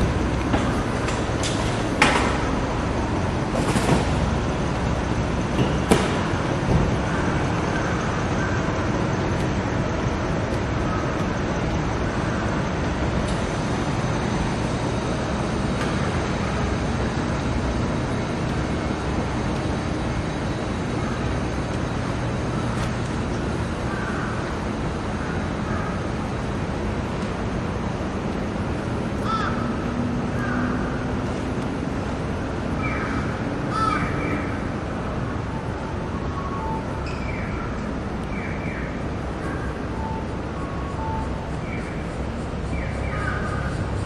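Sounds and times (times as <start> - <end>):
urban road traffic: 0.0 - 44.0.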